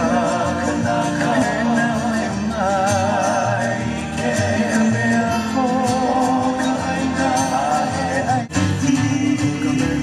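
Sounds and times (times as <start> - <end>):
acoustic guitar strumming: 0.0 - 10.0
person singing: 0.0 - 10.0.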